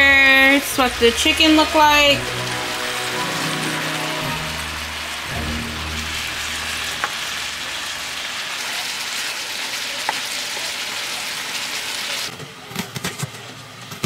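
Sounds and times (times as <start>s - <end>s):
chicken sizzling in oil: 0.2s - 12.3s.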